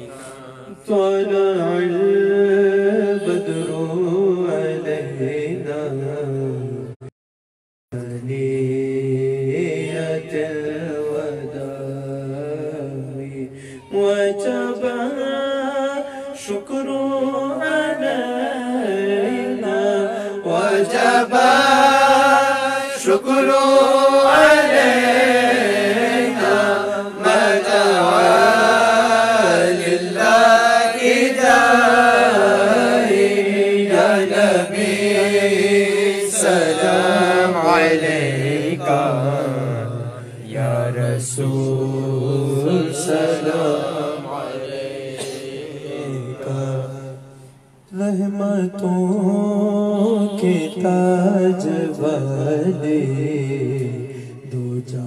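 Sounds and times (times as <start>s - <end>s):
men chanting a devotional song: 0.0s - 7.1s, 7.9s - 55.0s.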